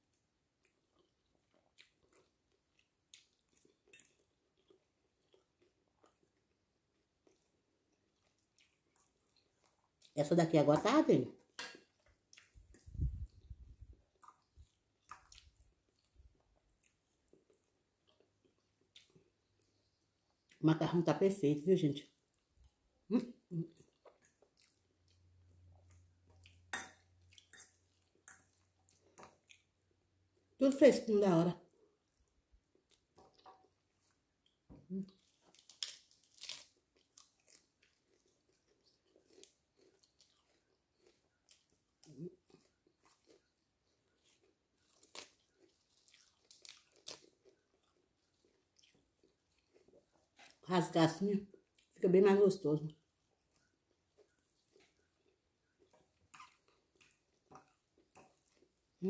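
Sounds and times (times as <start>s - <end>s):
person chewing food: 0.0s - 10.2s, 11.4s - 20.6s, 22.2s - 30.5s, 31.7s - 50.6s, 51.5s - 52.0s, 52.9s - 59.0s.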